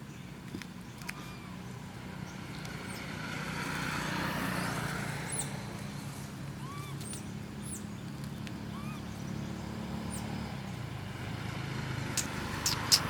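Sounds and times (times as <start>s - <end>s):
vehicle passing by: 1.3s - 13.0s.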